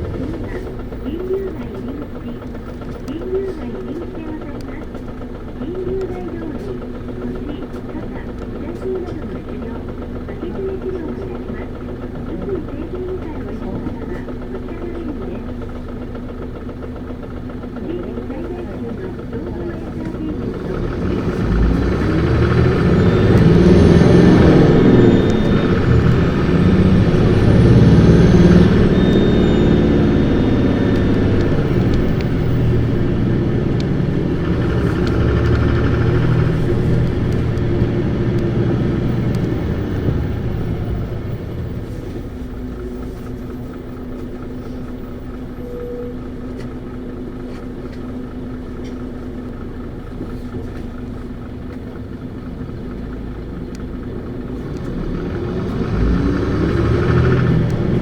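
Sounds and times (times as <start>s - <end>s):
bus diesel engine revving: 0.0s - 58.0s.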